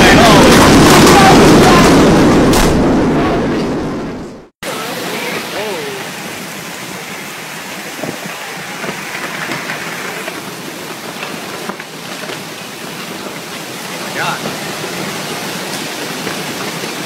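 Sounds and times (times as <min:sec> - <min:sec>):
torrential rain pouring: 0:00.0 - 0:17.0.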